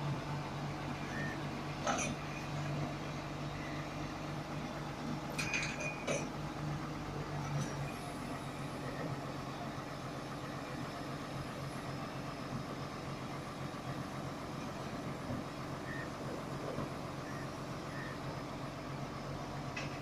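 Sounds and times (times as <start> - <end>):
crane diesel engine running: 0.0 - 20.0.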